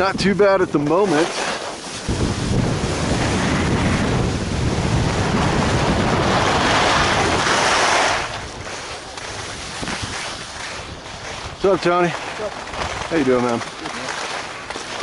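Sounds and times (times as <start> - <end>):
skis scraping on snow: 0.0 - 15.0
wind buffeting microphone: 0.0 - 15.0.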